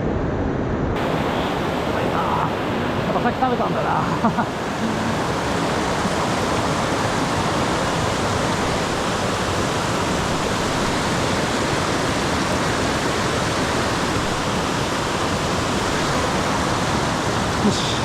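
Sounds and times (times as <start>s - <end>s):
rushing stream water: 1.0s - 18.0s.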